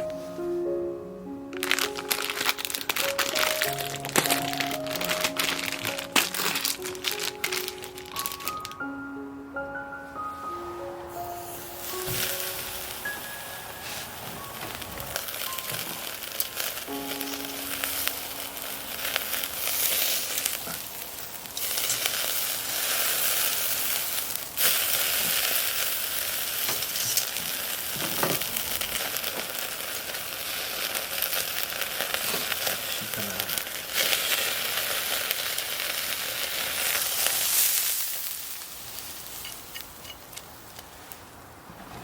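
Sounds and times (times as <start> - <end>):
food sizzling: 1.5 - 8.8, 11.2 - 41.4.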